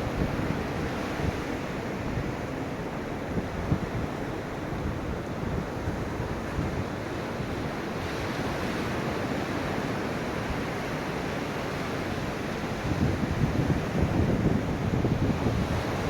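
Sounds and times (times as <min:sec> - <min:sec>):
ocean waves washing onto beach: 0:00.0 - 0:16.0.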